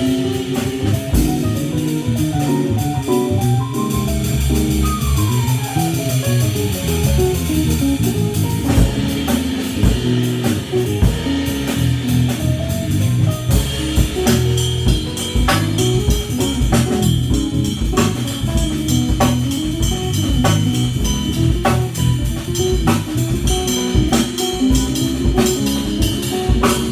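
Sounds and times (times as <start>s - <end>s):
bass: 0.0s - 26.9s
drum kit: 0.0s - 26.9s
keyboard: 0.0s - 26.9s.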